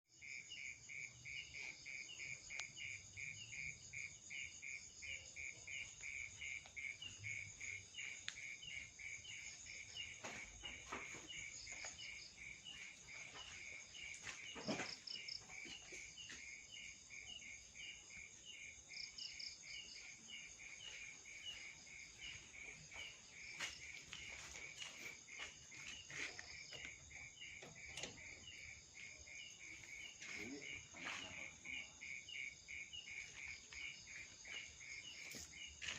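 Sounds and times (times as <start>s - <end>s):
crickets chirping: 0.1s - 35.9s.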